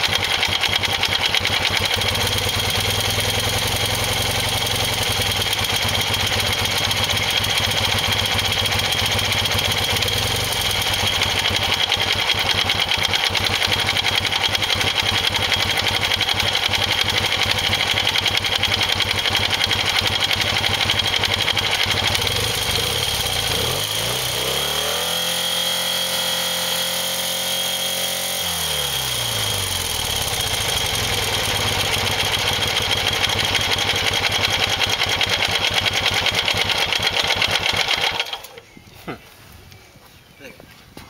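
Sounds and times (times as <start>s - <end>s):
motorcycle engine idling and revving: 0.0s - 38.8s.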